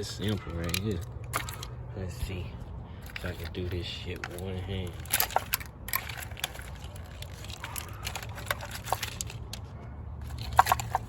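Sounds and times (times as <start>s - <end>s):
plastic connectors clicking: 0.1s - 1.8s, 3.0s - 11.0s.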